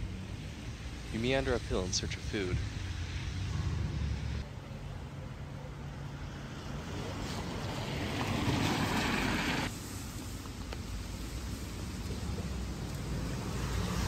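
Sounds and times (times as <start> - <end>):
steady outdoor rushing noise: 0.0 - 14.0.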